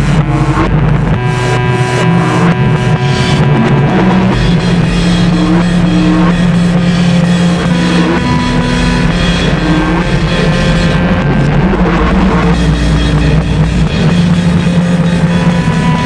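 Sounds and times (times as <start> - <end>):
harsh distorted noise music: 0.0 - 16.0.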